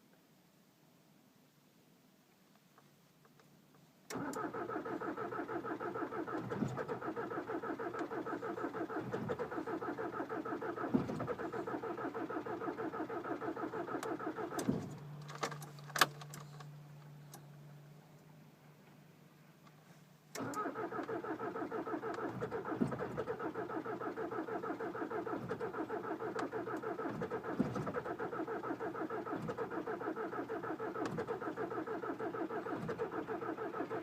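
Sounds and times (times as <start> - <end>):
car engine cranking: 4.1 - 17.8, 20.3 - 34.0.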